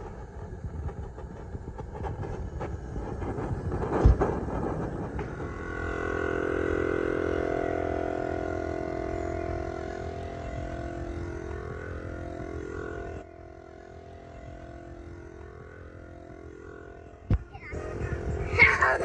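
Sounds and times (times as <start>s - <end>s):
portable tire inflator running: 0.0s - 19.0s.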